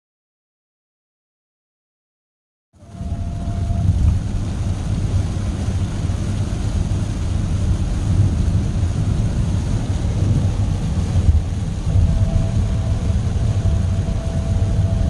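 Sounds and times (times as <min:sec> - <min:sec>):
rain hissing: 0:02.8 - 0:15.0
road and engine rumble: 0:02.8 - 0:15.0.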